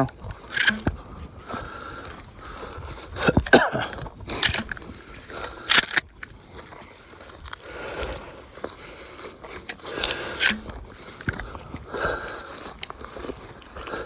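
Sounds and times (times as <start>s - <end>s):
rustling through dry vegetation: 0.0s - 14.0s.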